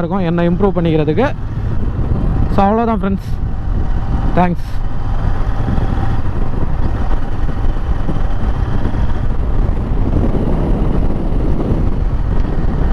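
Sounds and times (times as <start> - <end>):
motorcycle engine cruising: 0.0 - 12.9
wind rushing over microphone: 0.0 - 12.9.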